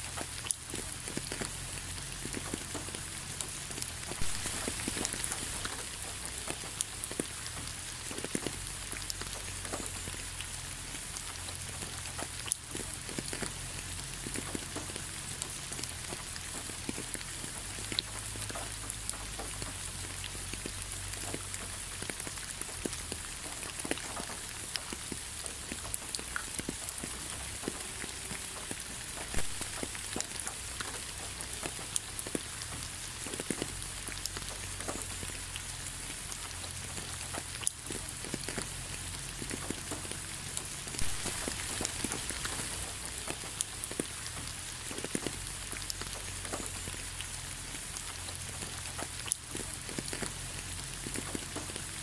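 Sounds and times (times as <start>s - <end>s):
raindrops clicking: 0.0s - 52.0s
steady rain hiss: 0.0s - 52.0s.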